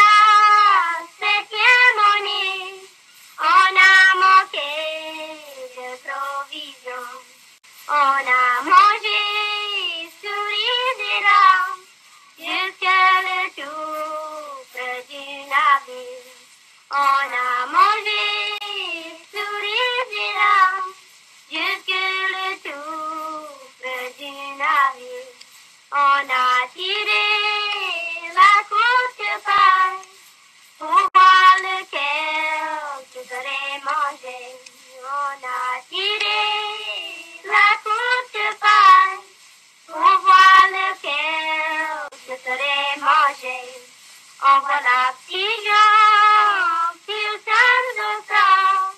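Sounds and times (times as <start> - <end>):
child-like voice singing: 0.0 - 30.1, 30.8 - 48.9.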